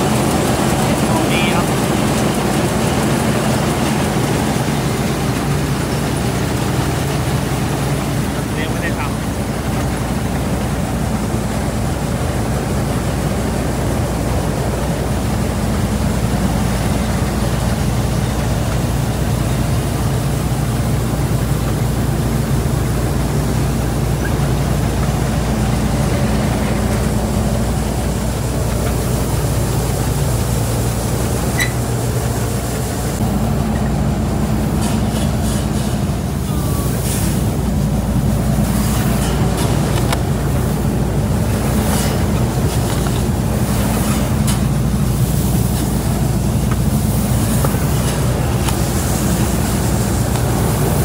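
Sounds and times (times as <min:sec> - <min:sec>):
combine harvester engine drone: 0:00.0 - 0:51.0.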